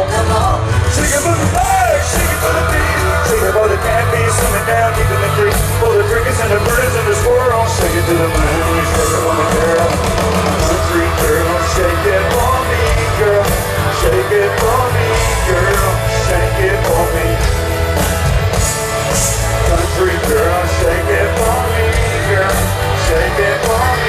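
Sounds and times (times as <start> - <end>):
electric guitar: 0.0 - 24.0
live country rock band: 0.0 - 24.0.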